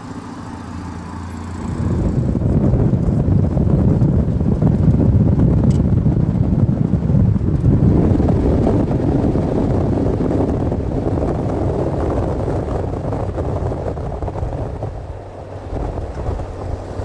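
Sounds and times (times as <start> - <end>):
truck engine running: 0.0 - 17.0
wind buffeting microphone: 0.1 - 17.0.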